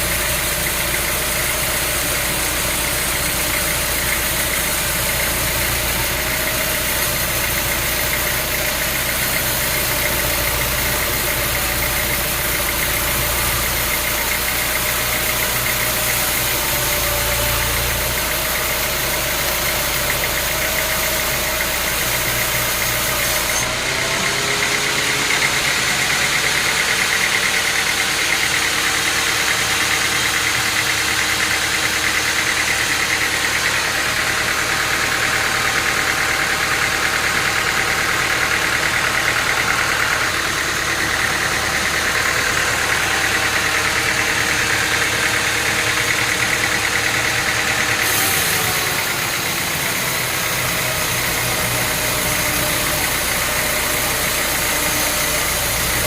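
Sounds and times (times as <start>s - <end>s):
sawmill saw droning: 0.0s - 56.0s.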